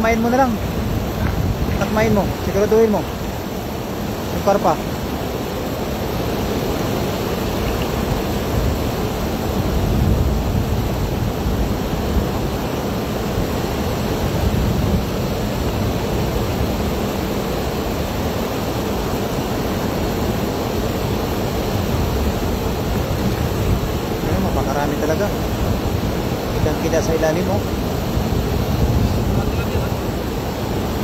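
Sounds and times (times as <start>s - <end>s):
river flowing over stones: 0.0s - 31.0s.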